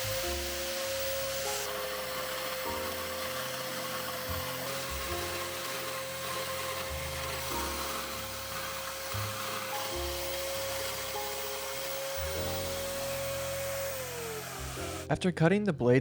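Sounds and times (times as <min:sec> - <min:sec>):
bandsaw cutting steel: 0:00.0 - 0:15.1.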